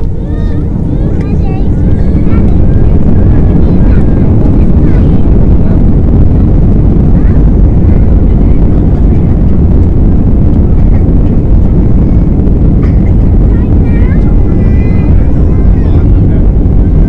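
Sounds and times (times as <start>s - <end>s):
faint voices: 0.0s - 17.0s
jet engine cabin rumble: 0.0s - 17.0s.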